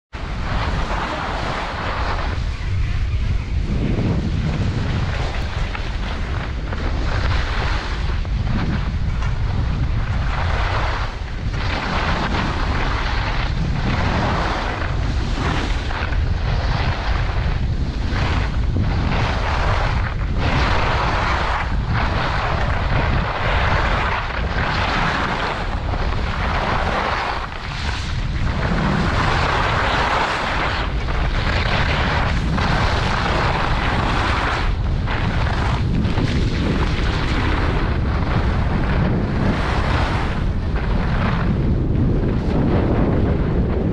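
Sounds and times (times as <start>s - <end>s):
wind buffeting microphone: 0.1s - 43.9s
skis scraping snow: 0.2s - 43.8s.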